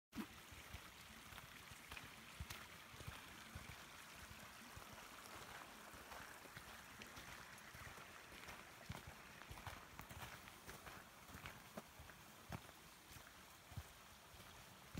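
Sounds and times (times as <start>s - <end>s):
footsteps on dirt trail: 1.3s - 14.9s.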